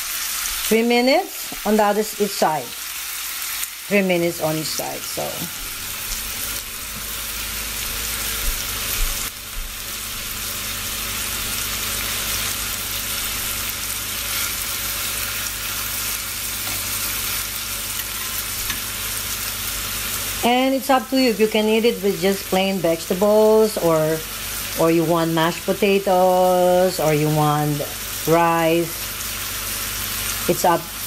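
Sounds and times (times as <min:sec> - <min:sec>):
steak sizzling in a frying pan: 0:00.0 - 0:31.0.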